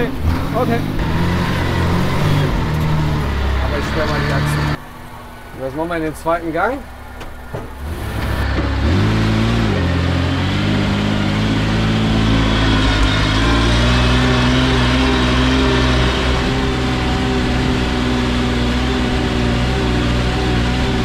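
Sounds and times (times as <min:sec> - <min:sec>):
truck engine pulling: 0:00.0 - 0:21.0.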